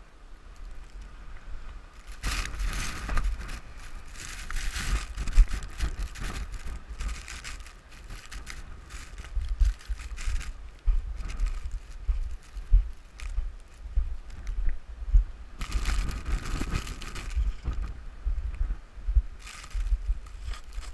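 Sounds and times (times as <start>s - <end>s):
wind gusting against microphone: 0.0s - 20.9s.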